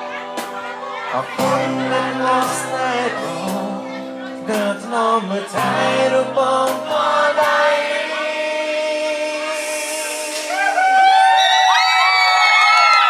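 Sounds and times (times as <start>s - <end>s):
person singing: 0.0s - 11.4s.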